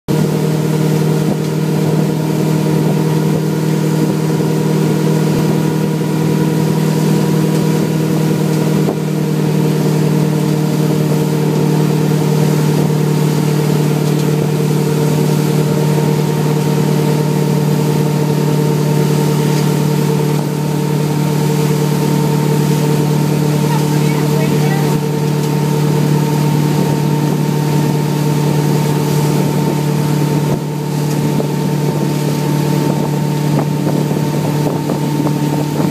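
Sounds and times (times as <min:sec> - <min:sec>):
boat engine humming: 0:00.1 - 0:35.9
rushing wake water: 0:00.1 - 0:35.9.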